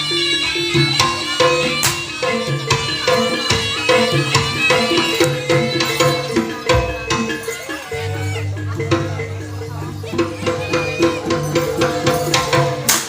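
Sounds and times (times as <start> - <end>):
held melody notes: 0.0 - 12.9
hand drums beating: 0.0 - 13.0.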